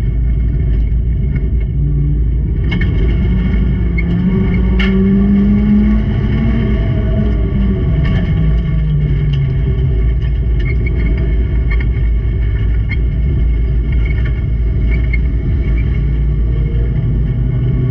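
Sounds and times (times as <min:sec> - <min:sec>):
race car engine rumbling: 0:00.0 - 0:17.9.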